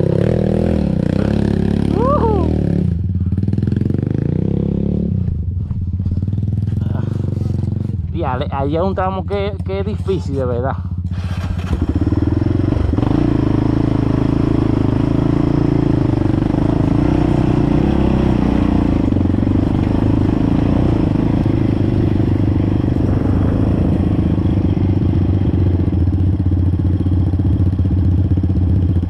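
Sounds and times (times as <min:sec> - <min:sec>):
off-road vehicle engine running: 0:00.0 - 0:29.0.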